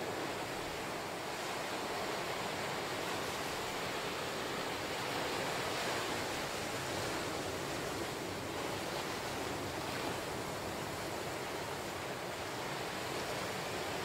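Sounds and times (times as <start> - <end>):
small waves breaking on beach: 0.0 - 14.0.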